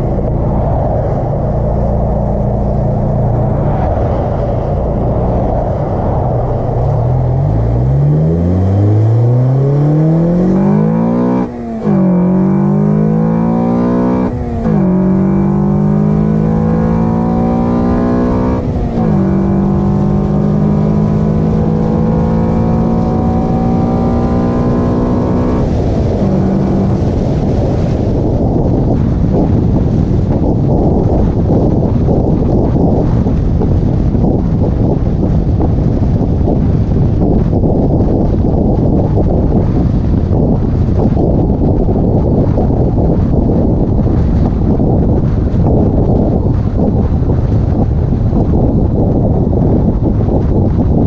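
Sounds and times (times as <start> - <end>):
car engine accelerating: 0.0 - 51.0
road rumble: 0.0 - 51.0.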